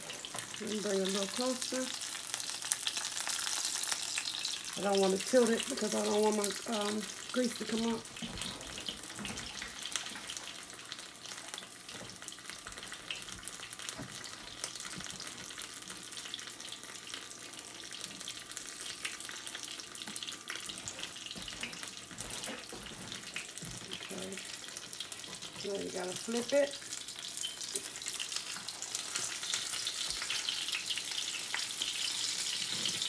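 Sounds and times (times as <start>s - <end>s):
taco sizzling in grease: 0.0s - 33.0s.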